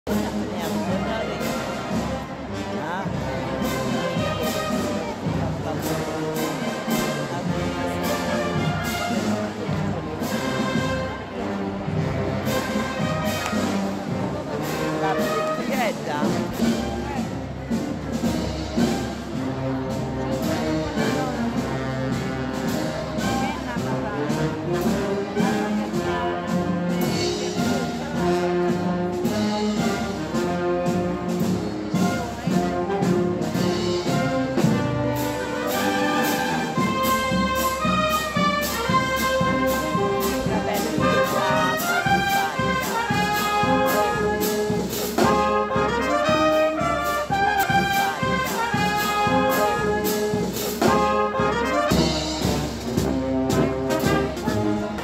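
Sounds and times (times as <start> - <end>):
marching band playing a march: 0.0 - 55.0.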